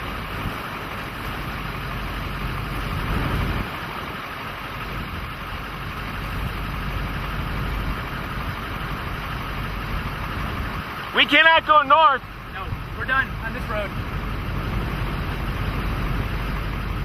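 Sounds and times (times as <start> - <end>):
strong wind buffeting microphone: 0.0 - 11.1, 12.3 - 17.0.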